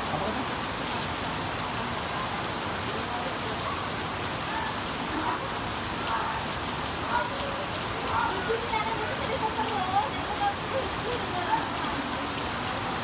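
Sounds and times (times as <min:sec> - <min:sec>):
steady rain falling: 0:00.0 - 0:13.0
faint indistinct voices: 0:02.2 - 0:13.0.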